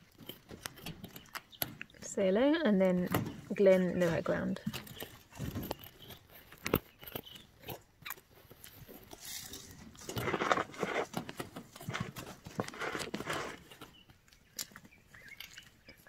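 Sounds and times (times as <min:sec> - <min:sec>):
scratchy rustles: 0:02.8 - 0:15.8.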